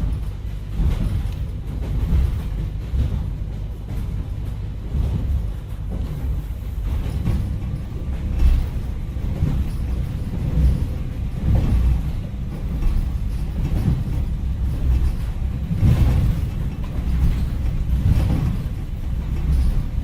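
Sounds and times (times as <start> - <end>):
steady deep rumble: 0.0 - 20.0.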